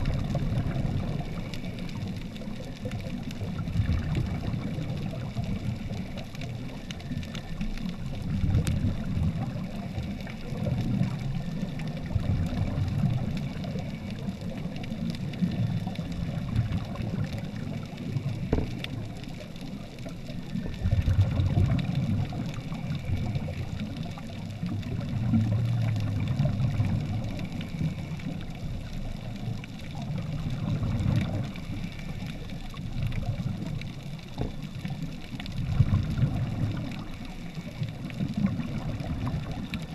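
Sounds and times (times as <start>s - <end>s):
regulator exhaust bubbles: 0.0s - 39.9s
underwater water surge: 0.0s - 39.9s.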